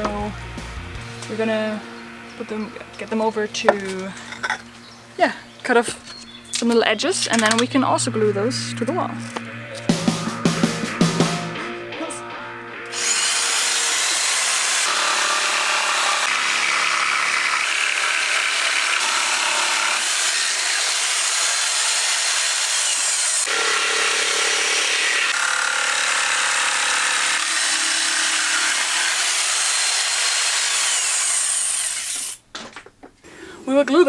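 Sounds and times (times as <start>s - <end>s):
power saw cutting boards: 0.0s - 12.1s, 12.8s - 32.8s.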